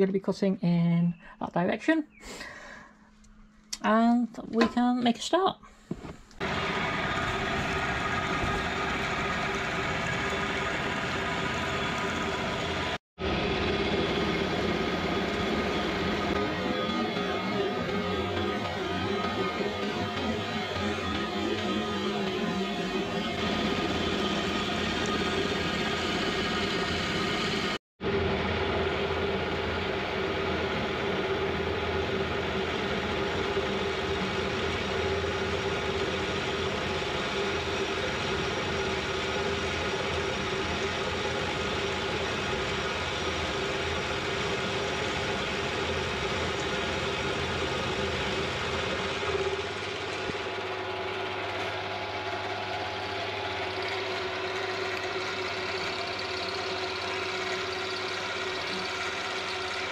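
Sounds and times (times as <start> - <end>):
cutter grinding steel: 6.4 - 27.8, 32.9 - 59.9
milling machine humming: 6.4 - 59.9.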